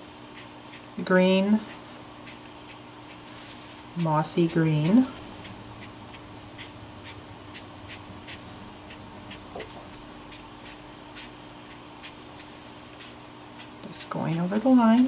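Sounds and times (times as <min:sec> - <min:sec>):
marker brush scratching on paper: 0:00.3 - 0:15.0.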